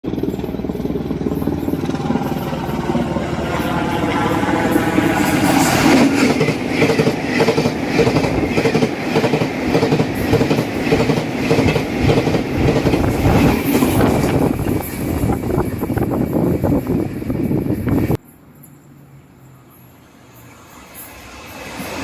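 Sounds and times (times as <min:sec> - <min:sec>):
train wheels clattering: 0:00.1 - 0:18.2.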